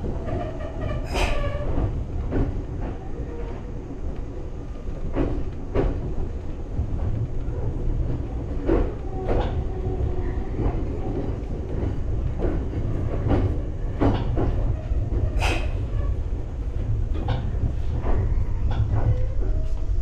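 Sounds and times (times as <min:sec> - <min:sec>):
train running rumble: 0:00.0 - 0:20.0
wheels clacking over rail joints: 0:00.0 - 0:20.0.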